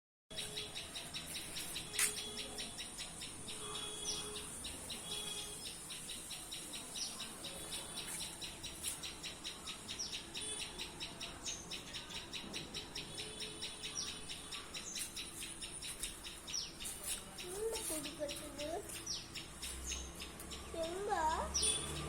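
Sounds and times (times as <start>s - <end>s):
small bird chirping: 0.3s - 22.0s.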